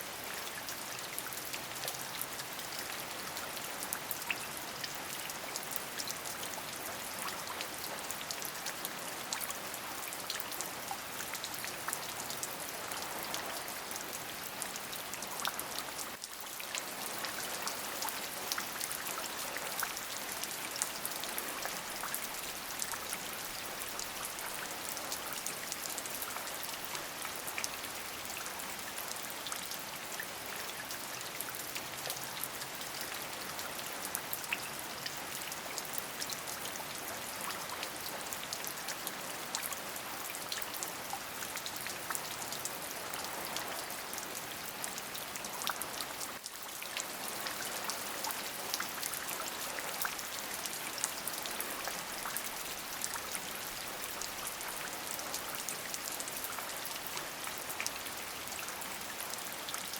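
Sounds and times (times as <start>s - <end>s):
steady rain hiss: 0.0s - 59.7s.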